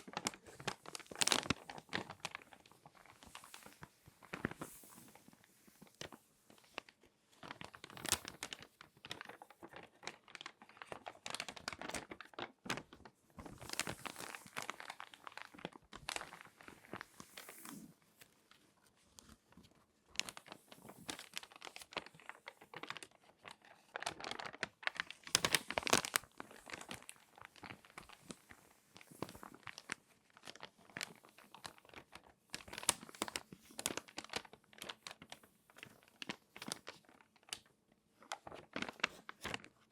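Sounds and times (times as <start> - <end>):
magazine pages crinkling: 0.0 - 39.9.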